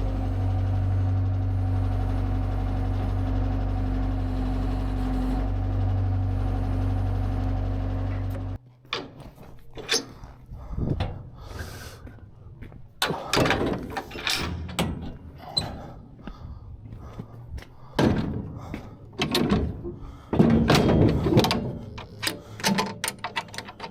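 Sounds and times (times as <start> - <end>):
skid steer engine running: 0.0 - 8.6, 11.4 - 23.9.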